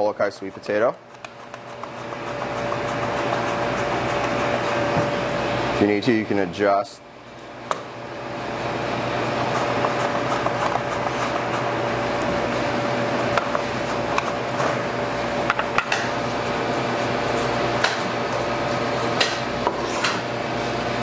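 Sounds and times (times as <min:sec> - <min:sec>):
kitchen ventilation hum: 0:00.0 - 0:21.0.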